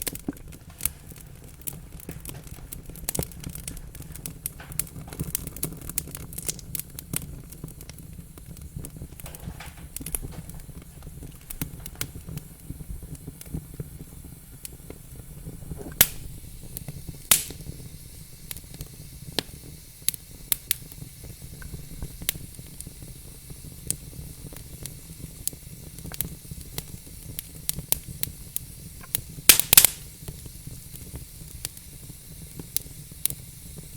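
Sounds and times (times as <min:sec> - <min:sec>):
fire crackling and popping: 0:00.0 - 0:33.9
fire flames rumbling and hissing: 0:00.0 - 0:33.9.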